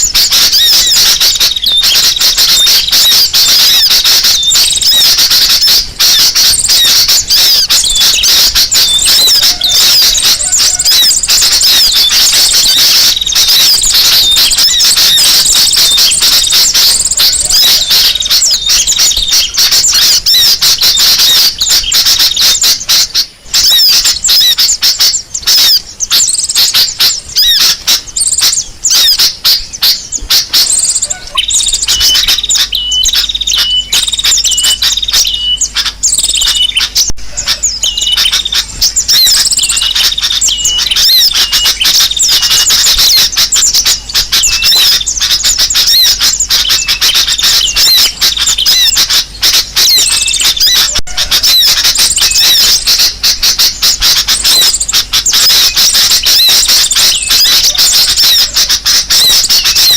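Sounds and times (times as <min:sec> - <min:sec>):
small birds chattering: 0:00.0 - 0:59.9.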